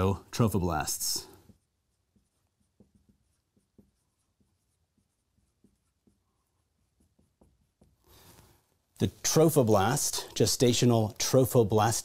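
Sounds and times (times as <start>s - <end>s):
marker writing on whiteboard: 0.0s - 12.0s.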